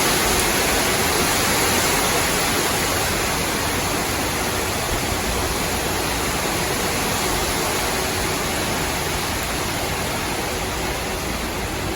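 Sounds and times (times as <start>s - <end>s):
strong wind through tree branches: 0.0s - 11.9s.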